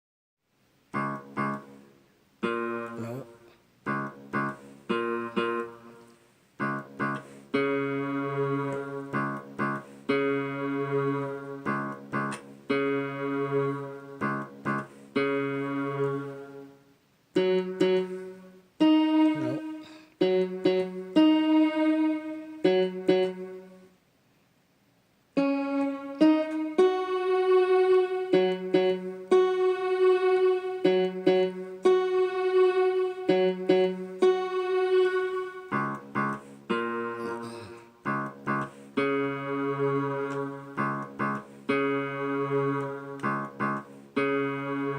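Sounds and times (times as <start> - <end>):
guitar chords ringing: 0.9 - 16.8, 17.4 - 23.9, 25.4 - 44.9.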